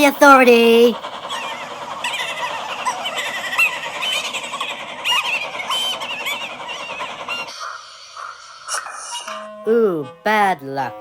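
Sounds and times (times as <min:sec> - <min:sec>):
flock of birds squawking: 0:00.5 - 0:09.5.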